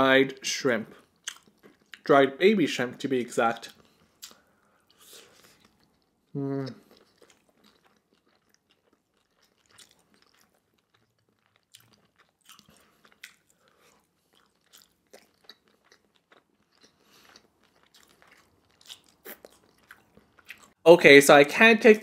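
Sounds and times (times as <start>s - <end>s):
chewing mouth clicks and smacks: 1.0s - 2.1s, 3.6s - 6.1s, 6.7s - 20.8s.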